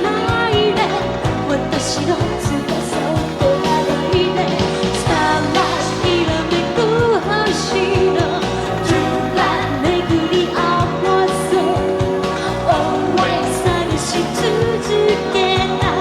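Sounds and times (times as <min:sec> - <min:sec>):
pop band with drum beat: 0:00.0 - 0:16.0
woman singing: 0:00.0 - 0:16.0.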